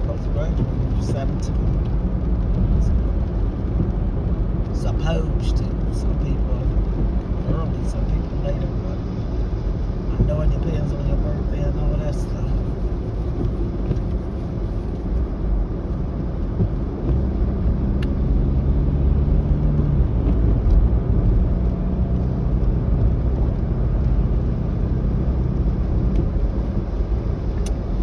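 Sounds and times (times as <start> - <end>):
road and engine rumble inside car: 0.0 - 28.0.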